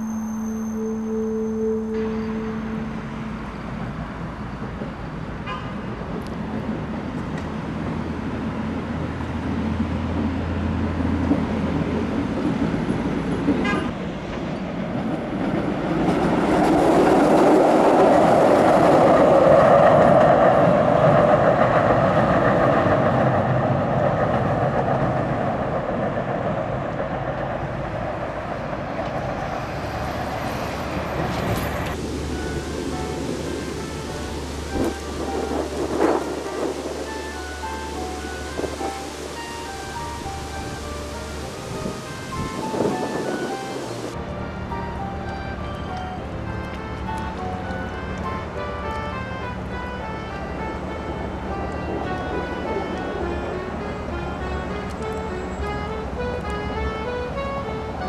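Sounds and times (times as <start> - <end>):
tram rumbling across bridge: 0.0 - 58.0.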